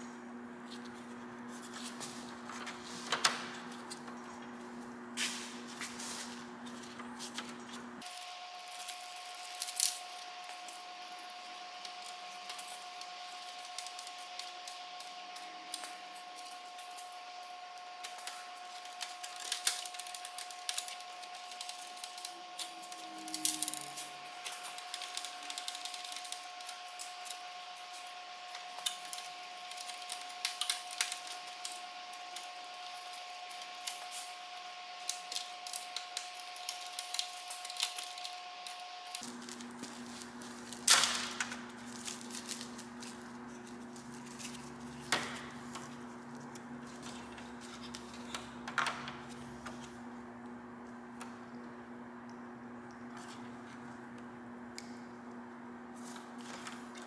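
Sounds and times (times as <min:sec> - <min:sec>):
steady two-tone hum: 0:00.0 - 0:57.0.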